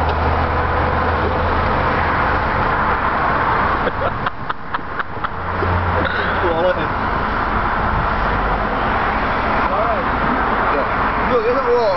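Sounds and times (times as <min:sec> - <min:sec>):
car engine and road noise: 0:00.0 - 0:11.9.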